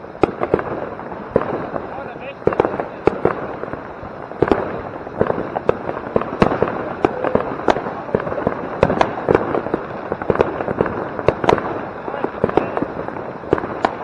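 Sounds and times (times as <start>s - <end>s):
firecracker bangs and pops: 0.0s - 14.0s
firework fountains hissing: 0.0s - 14.0s.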